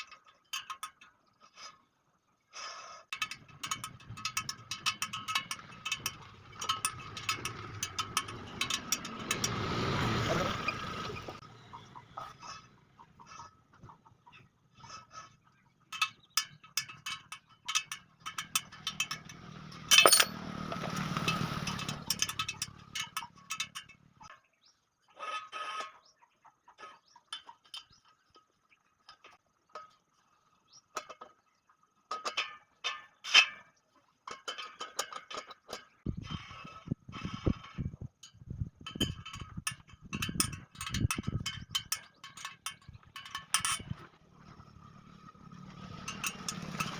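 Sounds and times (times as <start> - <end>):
metal spokes clinking: 0.0 - 1.8, 3.1 - 24.6, 26.8 - 30.2, 32.1 - 46.9.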